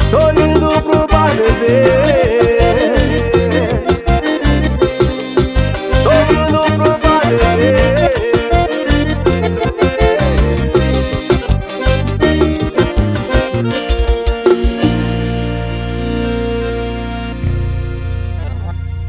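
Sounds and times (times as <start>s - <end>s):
instrumental dance song: 0.0s - 17.8s.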